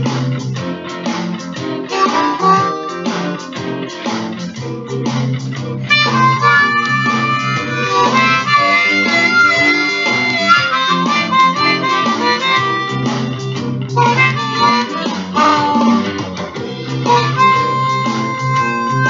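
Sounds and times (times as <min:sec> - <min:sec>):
blues guitar backing track: 0:00.0 - 0:19.0
steady bass: 0:00.0 - 0:19.0
harmonica playing blues: 0:01.0 - 0:19.0.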